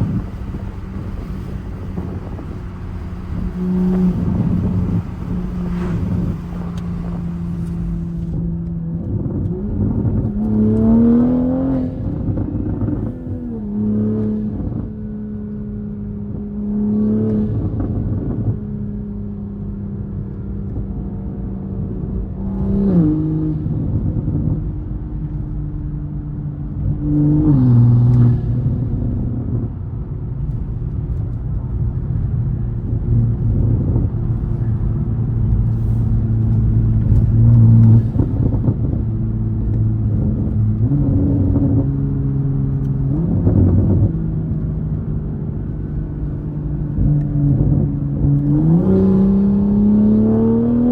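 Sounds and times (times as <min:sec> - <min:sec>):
turbocharged car engine and exhaust: 0:00.0 - 0:50.9.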